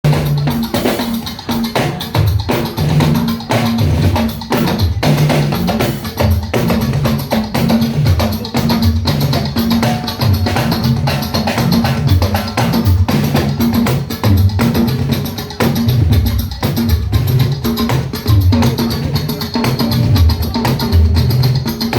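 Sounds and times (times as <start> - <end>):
bass line: 0.0 - 21.9
drums and percussion: 0.0 - 21.9.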